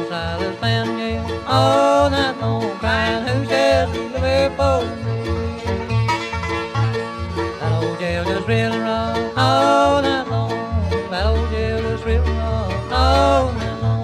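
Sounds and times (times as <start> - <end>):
banjo: 0.0 - 14.0
fiddle: 0.0 - 14.0
guitar: 0.0 - 14.0
upright bass: 0.0 - 14.0.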